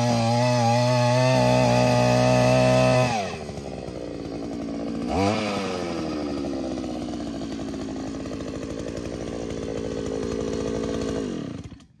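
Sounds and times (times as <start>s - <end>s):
earth auger engine running: 0.0s - 12.0s.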